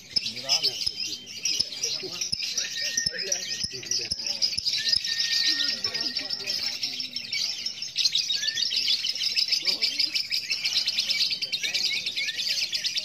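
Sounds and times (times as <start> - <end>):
lovebird chattering trill: 0.0 - 13.0.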